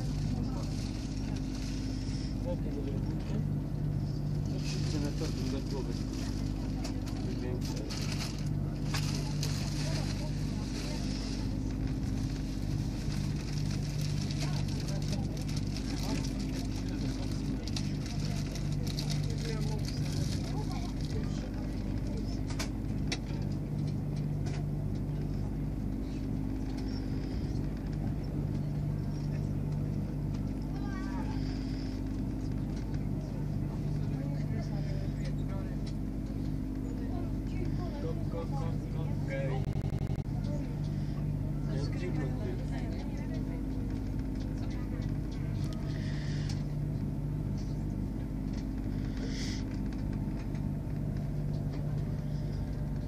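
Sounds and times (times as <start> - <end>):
train running from inside carriage: 0.0 - 53.0.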